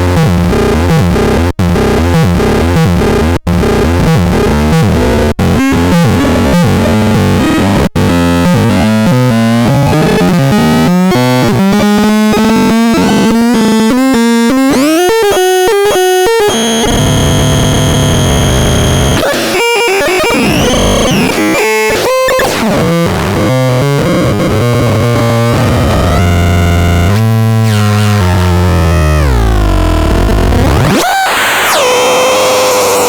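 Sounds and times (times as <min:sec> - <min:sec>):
buzzy synthesizer tone: 0:00.2 - 0:33.0.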